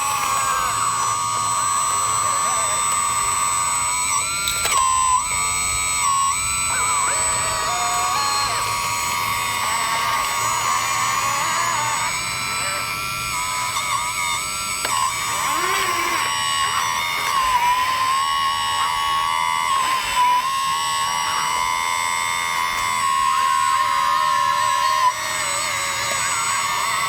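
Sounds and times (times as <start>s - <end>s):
electric motors whining: 0.0s - 27.0s.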